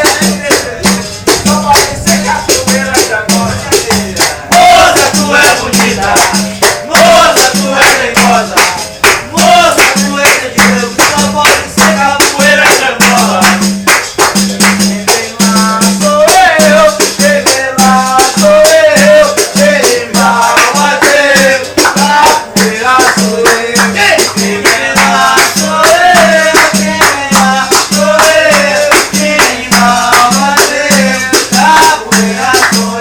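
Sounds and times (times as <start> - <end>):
person singing: 0.0 - 13.7, 14.9 - 33.0
rattle-like shaker: 0.0 - 33.0.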